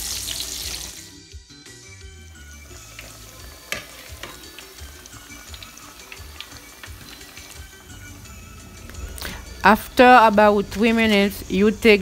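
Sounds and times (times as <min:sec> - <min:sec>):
hot oil sizzling: 0:00.0 - 0:01.2, 0:02.2 - 0:12.0.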